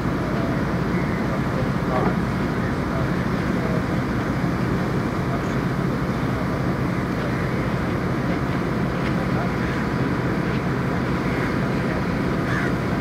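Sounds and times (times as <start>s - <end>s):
boat engine droning: 0.0s - 13.0s
wind: 0.0s - 13.0s.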